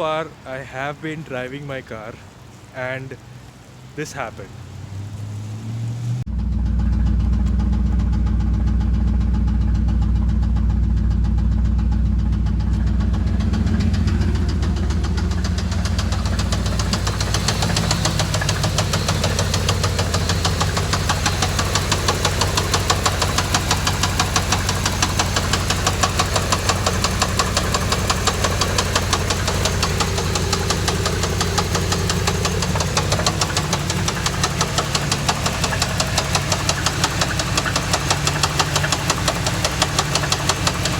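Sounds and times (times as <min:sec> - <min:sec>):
car engine knocking: 0:06.2 - 0:40.9.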